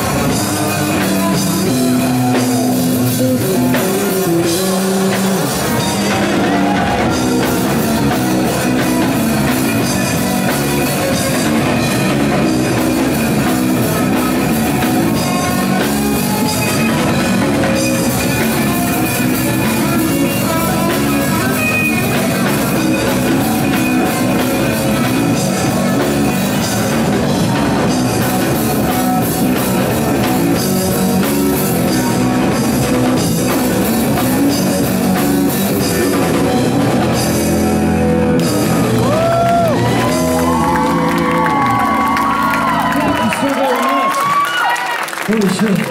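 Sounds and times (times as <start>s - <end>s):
punk rock band playing: 0.0s - 45.9s.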